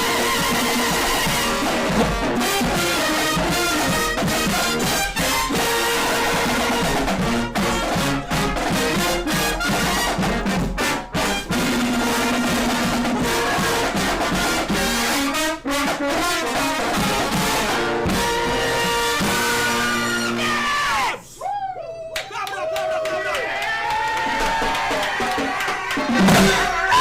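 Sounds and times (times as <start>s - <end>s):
upbeat brass music with drums: 0.0s - 20.7s, 24.4s - 27.0s.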